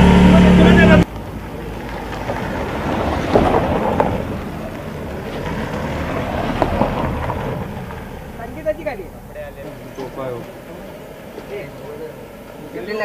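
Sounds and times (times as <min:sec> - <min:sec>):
car driving on dirt track: 0:00.0 - 0:11.4.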